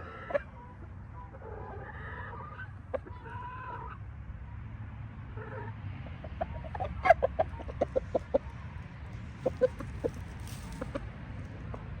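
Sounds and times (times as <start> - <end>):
chicken clucking: 0.0 - 4.0, 5.4 - 12.0.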